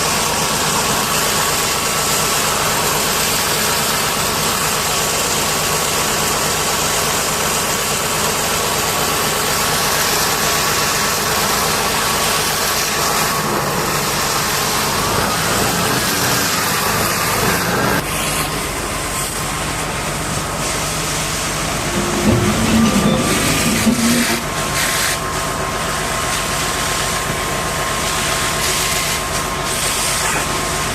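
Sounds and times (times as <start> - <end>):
engine running: 0.0 - 30.9.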